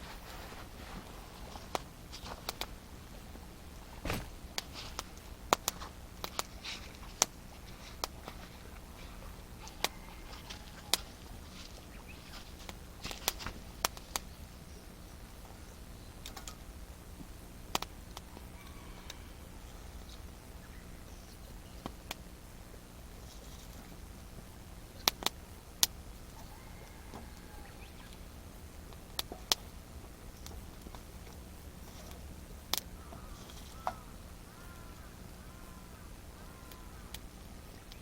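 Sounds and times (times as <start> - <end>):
campfire crackling: 0.0 - 38.0
faint low hum: 0.0 - 38.0.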